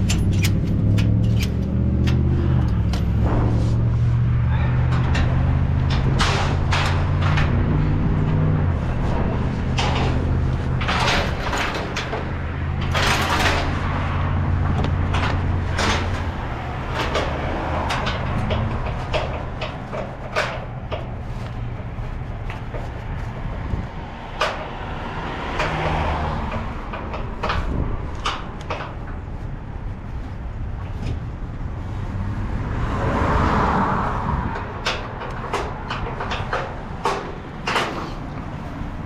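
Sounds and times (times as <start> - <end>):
sharp clicks and knocks: 0.0 - 4.0, 4.8 - 29.4, 34.0 - 39.0
truck engine humming: 0.0 - 32.7.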